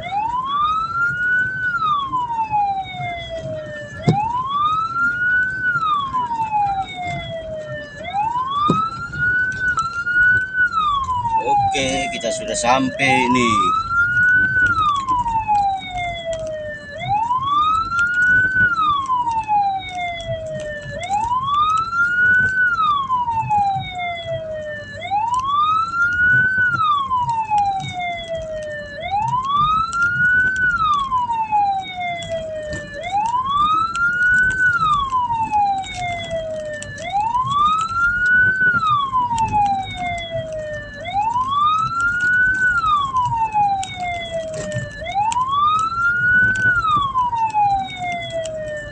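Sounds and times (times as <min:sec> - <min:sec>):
wailing siren: 0:00.0 - 0:48.9.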